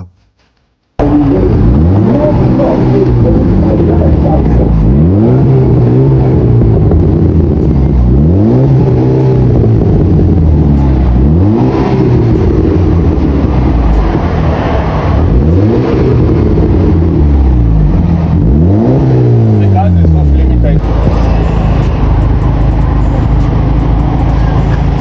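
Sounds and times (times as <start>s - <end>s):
car engine revving: 1.0s - 25.0s.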